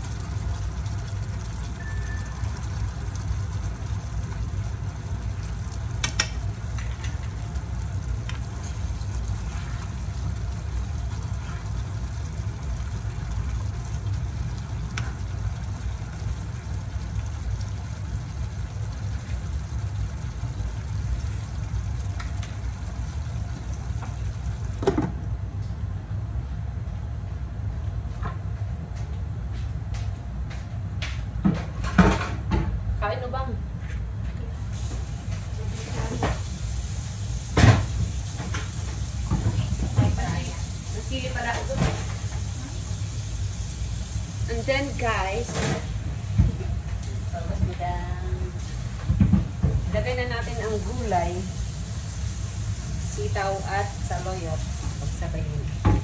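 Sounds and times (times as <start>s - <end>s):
water boiling in a pot: 0.0s - 28.1s, 34.5s - 56.0s.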